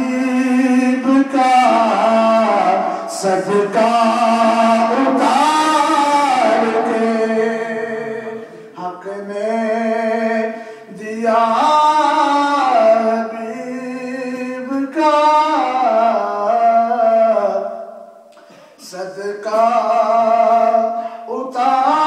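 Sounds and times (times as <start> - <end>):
man singing unaccompanied: 0.0 - 17.8, 18.8 - 22.0.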